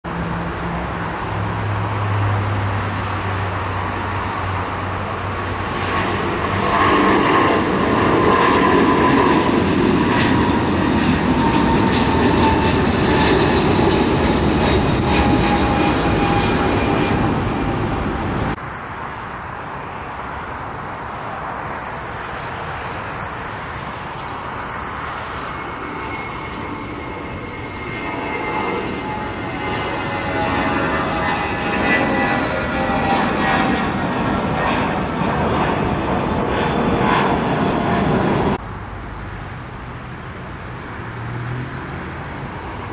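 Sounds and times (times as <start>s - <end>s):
jet engine whine: 0.0s - 42.9s
jet engines roaring: 0.0s - 42.9s.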